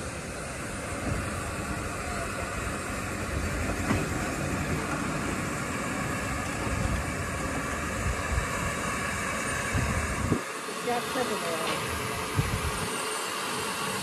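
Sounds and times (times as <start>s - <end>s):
train wheels and running gear: 0.0s - 14.0s.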